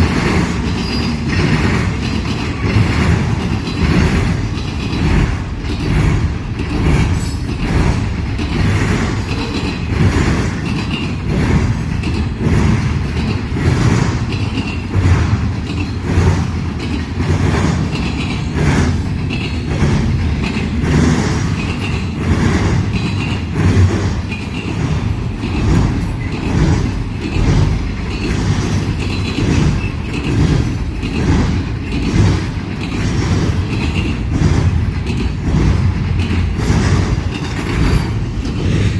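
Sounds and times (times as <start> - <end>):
low rumble of train cars: 0.0 - 38.9
train wheels clacking on track: 0.0 - 38.9.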